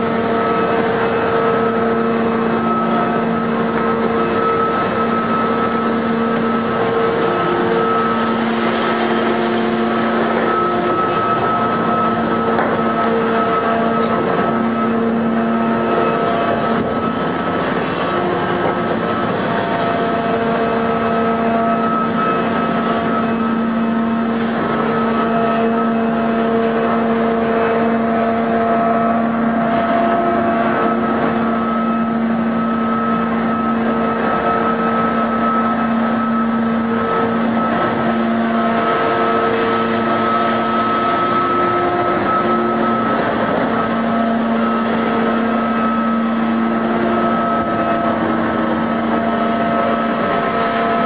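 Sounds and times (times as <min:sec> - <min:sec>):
hydraulic whining tones: 0:00.0 - 0:51.0
mining shovel engine drone: 0:00.0 - 0:51.0.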